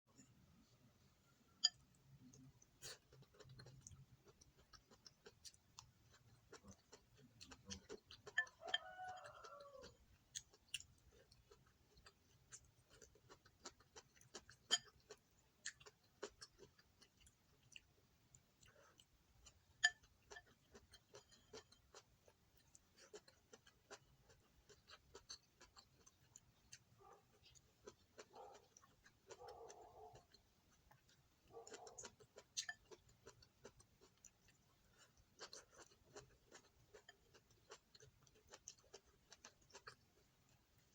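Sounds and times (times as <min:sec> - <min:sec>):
chewing: 0:01.6 - 0:40.9.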